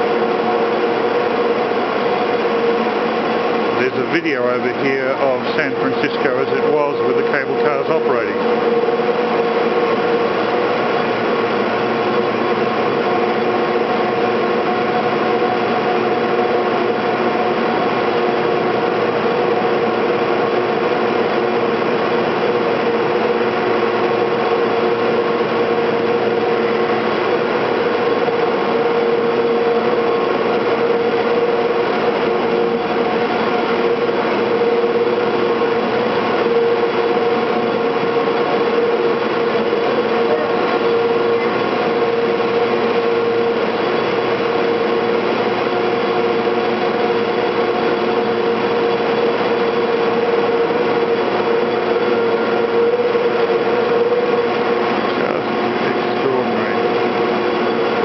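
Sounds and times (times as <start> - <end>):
constant motor whine: 0.0 - 58.0
winding machinery drone: 0.0 - 58.0.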